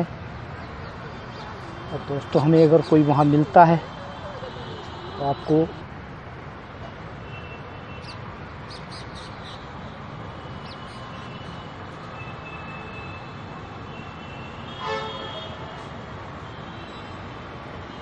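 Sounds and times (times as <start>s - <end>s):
background traffic noise: 0.0s - 18.0s.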